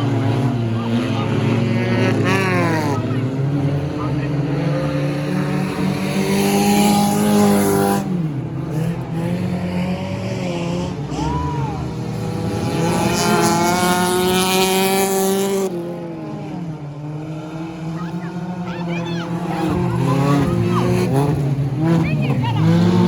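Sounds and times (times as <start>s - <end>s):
car engine revving: 0.0s - 23.0s
stock car engines racing: 0.0s - 23.0s.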